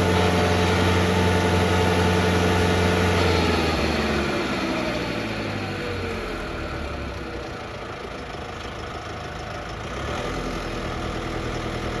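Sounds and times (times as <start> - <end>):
stump grinder engine running: 0.0 - 12.0.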